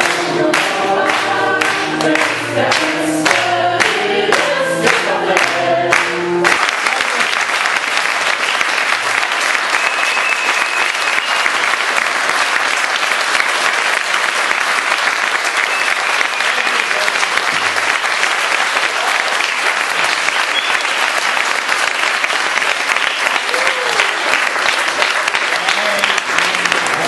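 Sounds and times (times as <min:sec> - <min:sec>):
people applauding: 0:00.0 - 0:27.0.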